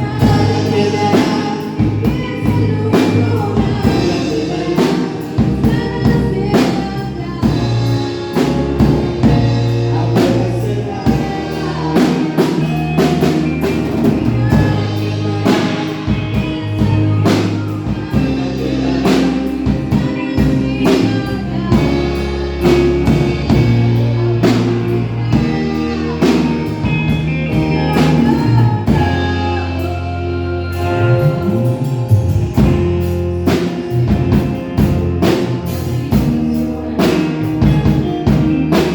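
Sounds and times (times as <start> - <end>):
song with drums bass and guitar: 0.0 - 38.9.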